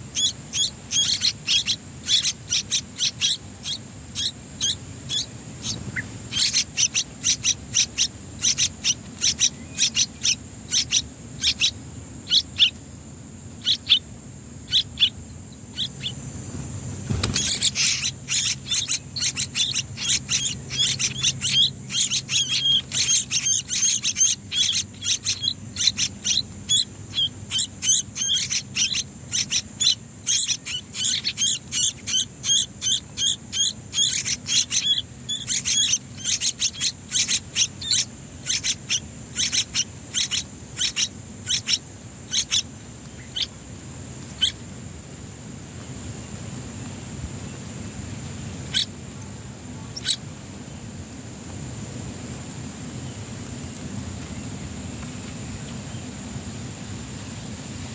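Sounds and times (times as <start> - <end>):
nestlings cheeping: 0.0 - 43.6, 44.3 - 44.7, 46.6 - 56.2.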